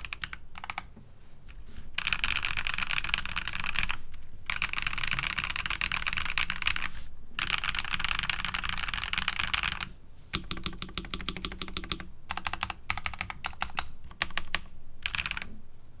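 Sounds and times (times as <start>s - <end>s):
mechanical keyboard typing: 0.0s - 0.9s, 2.0s - 15.5s.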